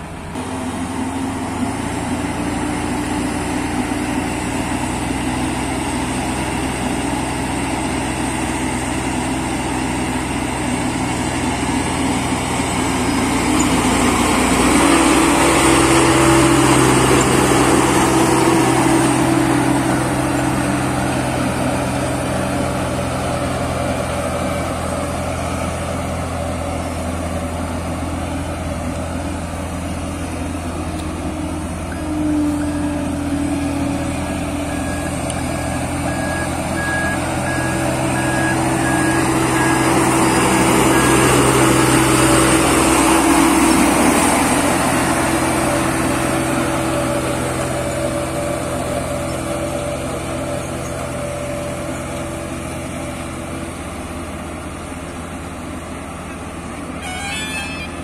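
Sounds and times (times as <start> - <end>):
road roller diesel engine droning: 0.0 - 58.0.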